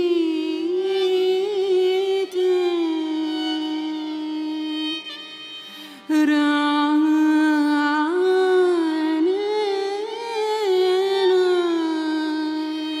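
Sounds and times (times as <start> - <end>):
tanpura drone: 0.0 - 13.0
violin: 0.0 - 13.0.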